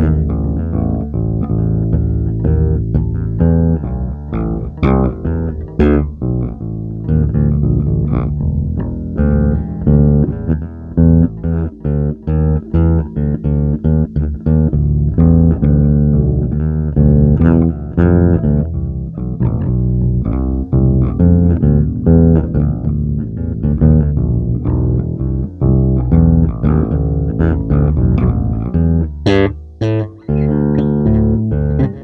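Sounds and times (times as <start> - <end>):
low plucked string instrument: 0.0 - 32.0.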